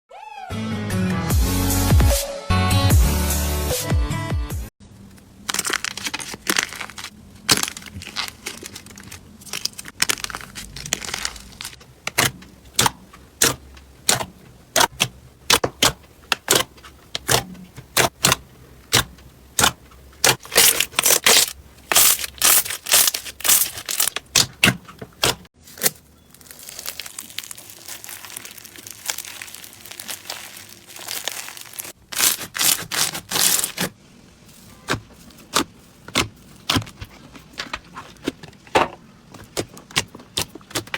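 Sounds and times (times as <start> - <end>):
slime squishing: 4.9 - 40.9.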